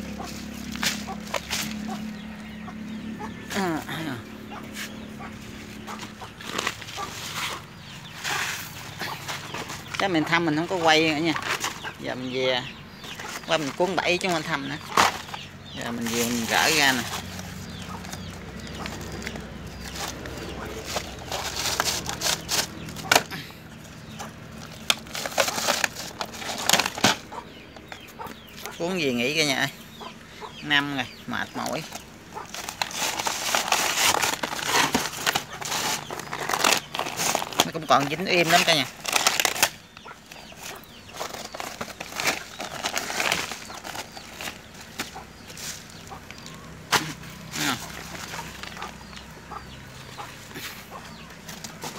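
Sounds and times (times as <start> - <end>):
plastic sack crackling and rustling: 0.0 - 2.4, 3.4 - 28.0, 31.4 - 50.6.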